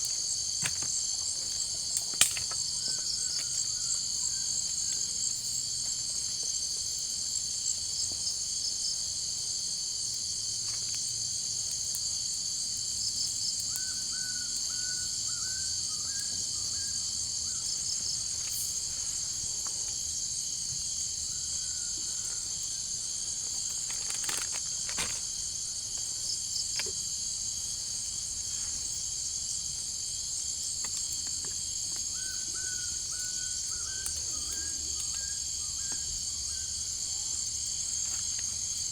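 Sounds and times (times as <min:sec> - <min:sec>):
insect chorus shrilling: 0:00.0 - 0:10.0, 0:12.5 - 0:38.9.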